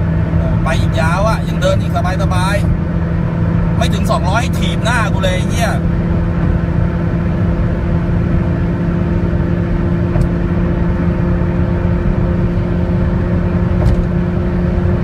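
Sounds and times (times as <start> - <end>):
car engine hum at high revs: 0.0 - 15.0
road and wind noise: 0.0 - 15.0.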